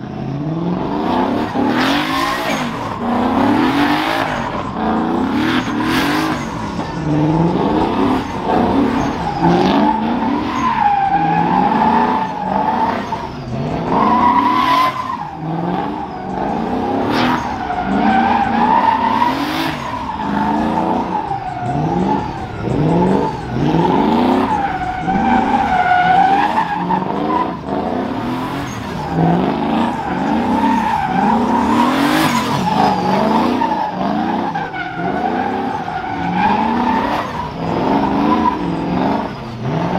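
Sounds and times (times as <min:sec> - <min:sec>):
spinning tires squealing: 0:00.0 - 0:39.9
truck engine revving hard: 0:00.0 - 0:39.9.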